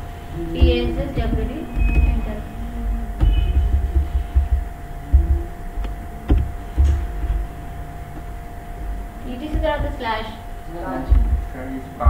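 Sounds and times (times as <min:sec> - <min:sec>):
electrical hum: 0:00.0 - 0:12.0
low thumps and rumble: 0:00.0 - 0:12.0.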